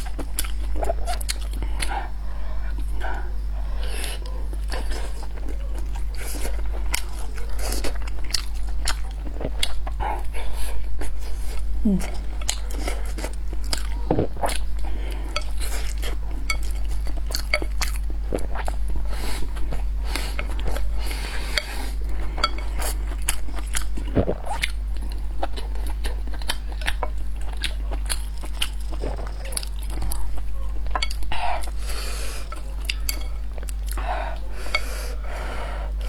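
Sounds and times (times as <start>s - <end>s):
biting and chewing food: 0.0s - 34.9s
steady low hum: 0.0s - 36.0s.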